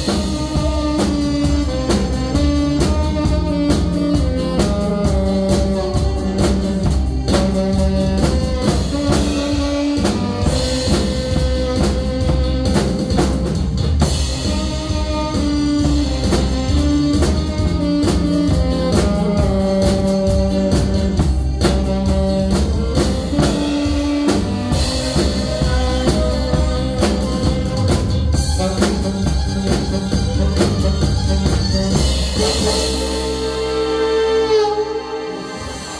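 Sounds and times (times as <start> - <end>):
alto saxophone melody: 0.0 - 35.9
drum kit steady beat: 0.0 - 35.9.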